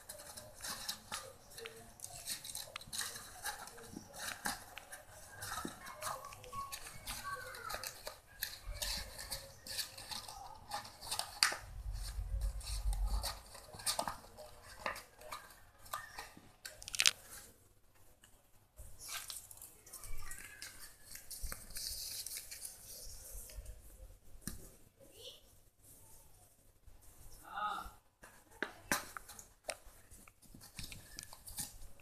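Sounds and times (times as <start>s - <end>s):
paper rustling and crinkling: 0.0s - 17.6s, 18.8s - 24.8s, 28.3s - 32.0s.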